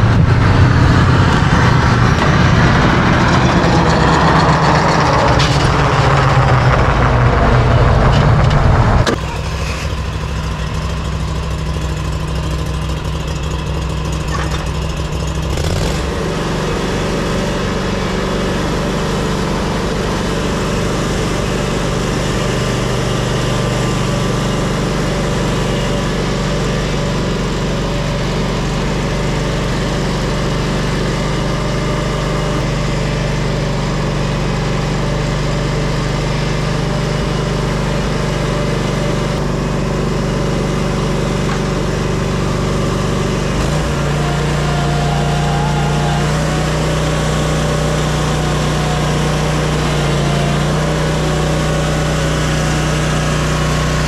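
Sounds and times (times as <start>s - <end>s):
ride-on lawn mower engine running: 0.0s - 54.0s.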